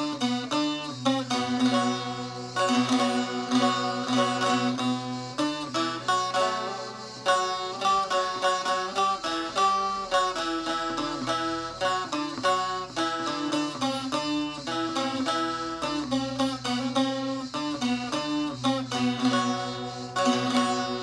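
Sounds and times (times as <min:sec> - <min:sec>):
plucked string folk melody: 0:00.0 - 0:21.0.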